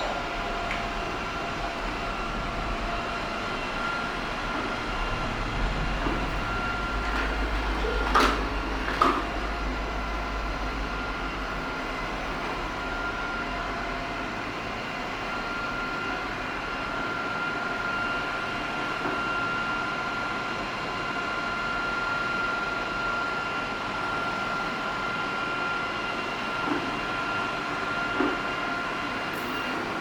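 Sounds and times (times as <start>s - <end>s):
robot vacuum fan running: 0.0s - 30.0s.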